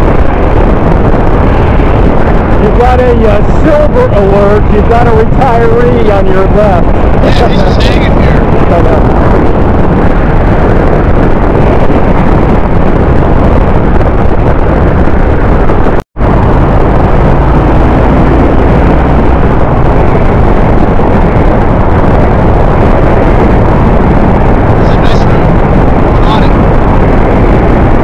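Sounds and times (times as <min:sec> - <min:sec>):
wind noise on microphone: 0:00.0 - 0:28.0.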